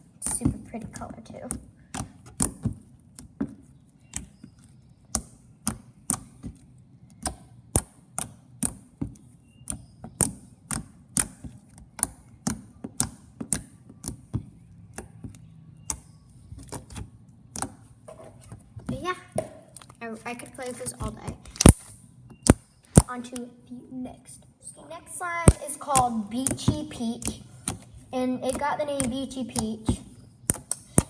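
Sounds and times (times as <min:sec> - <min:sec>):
slime squished with clicks and pops: 0:00.2 - 0:17.9, 0:19.3 - 0:23.6, 0:25.3 - 0:31.0.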